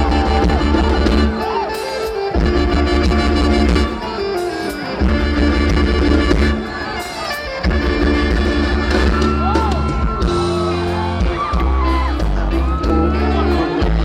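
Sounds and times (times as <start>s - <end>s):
amplified band playing folk-pop: 0.0s - 14.0s.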